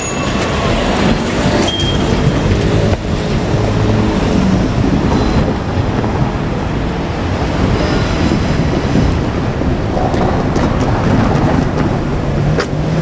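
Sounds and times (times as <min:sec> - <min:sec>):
diesel railcar engines rumbling: 0:00.0 - 0:13.0
steel wheels on rails: 0:00.0 - 0:13.0.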